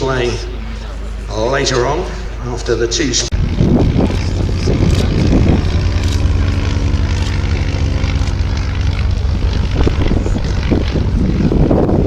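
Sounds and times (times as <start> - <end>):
aircraft engine and propeller droning: 0.0 - 12.0
low rumble: 0.0 - 12.0.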